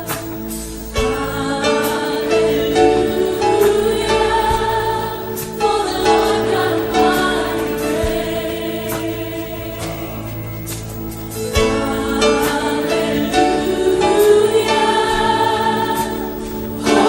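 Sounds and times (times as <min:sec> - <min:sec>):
group singing a hymn: 0:00.0 - 0:17.0.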